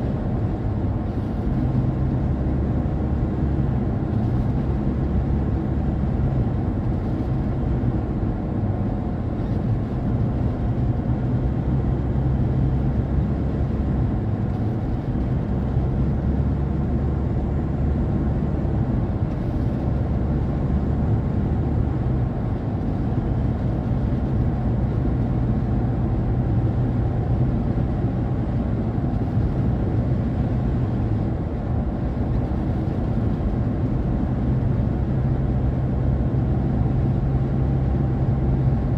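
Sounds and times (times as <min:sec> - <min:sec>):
car road and wind rumble: 0:00.0 - 0:38.9.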